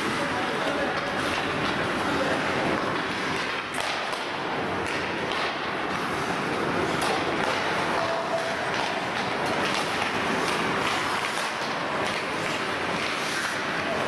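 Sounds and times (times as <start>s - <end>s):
hockey sticks and puck knocking: 0.0s - 14.0s.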